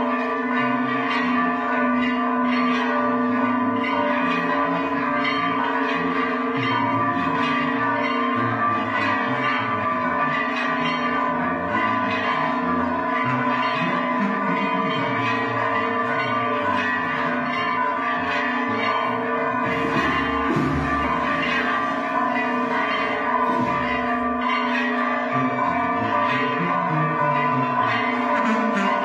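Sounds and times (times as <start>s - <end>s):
church bells pealing: 0.0s - 29.0s.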